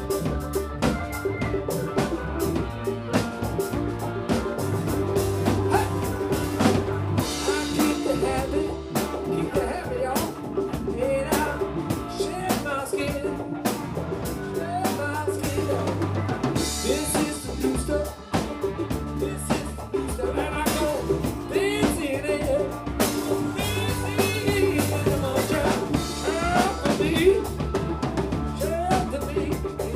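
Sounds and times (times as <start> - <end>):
bending lead guitar lines: 0.0 - 29.9
drum kit beat: 0.0 - 29.9
sustained bass notes: 0.0 - 29.9.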